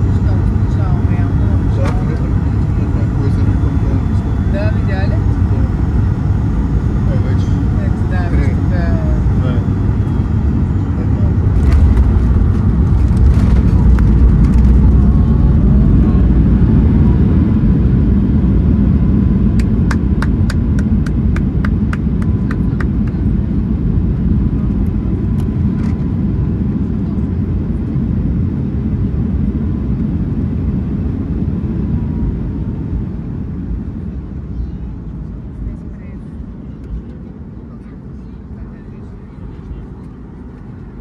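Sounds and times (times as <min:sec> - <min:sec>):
airliner engine rumble: 0:00.0 - 0:41.0.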